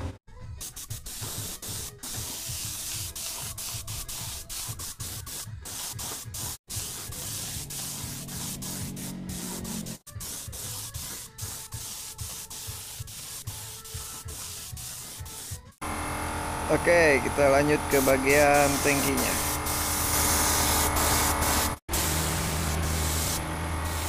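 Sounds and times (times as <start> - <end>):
spray gun hissing: 0.6 - 15.7, 17.3 - 24.0.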